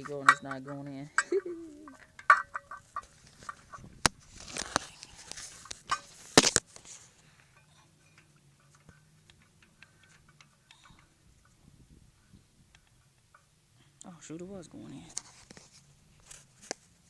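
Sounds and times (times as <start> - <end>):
tools clinking and scraping on metal: 0.0 - 17.0.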